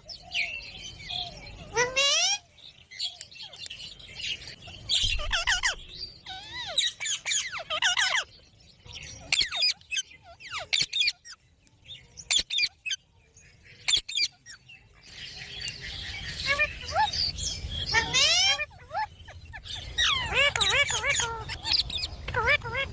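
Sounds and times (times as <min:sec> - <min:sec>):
parrots squawking and screeching: 0:00.8 - 0:03.6, 0:04.2 - 0:11.4, 0:12.2 - 0:13.0, 0:13.8 - 0:22.9.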